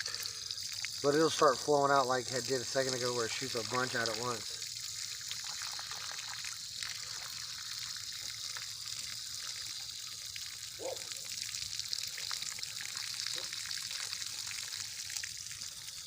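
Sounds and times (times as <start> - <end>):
small water splashes: 0.0 - 16.0
water trickling from hose: 0.0 - 16.0.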